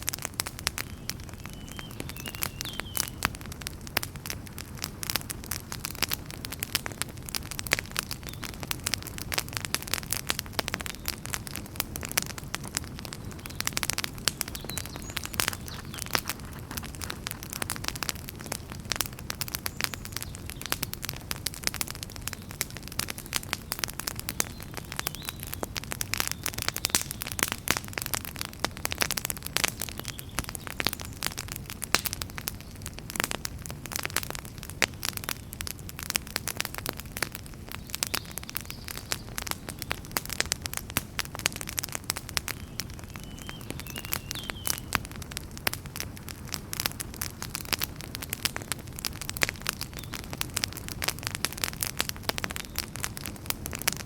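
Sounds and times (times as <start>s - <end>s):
low rumble of flames: 0.0s - 54.0s
wood fire crackles and pops: 0.0s - 54.0s.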